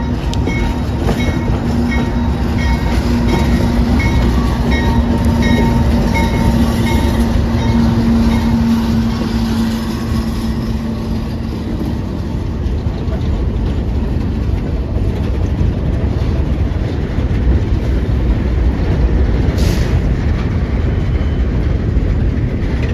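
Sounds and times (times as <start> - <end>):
freight train rolling by: 0.0 - 22.9.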